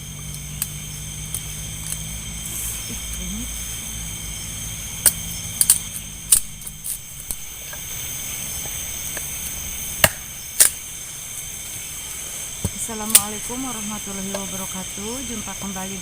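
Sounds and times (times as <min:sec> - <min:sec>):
high-pitched insect chirring: 0:00.0 - 0:16.0
low background hum: 0:00.0 - 0:16.0.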